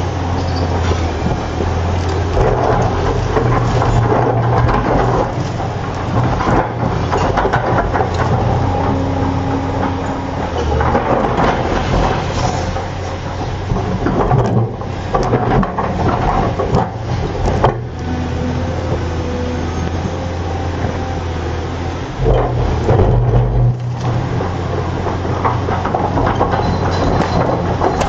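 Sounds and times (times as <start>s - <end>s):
boulder grinding over rocks: 0.0s - 21.6s, 22.2s - 28.0s
diesel engine under load: 0.0s - 28.0s
hydraulic whines: 0.0s - 28.0s.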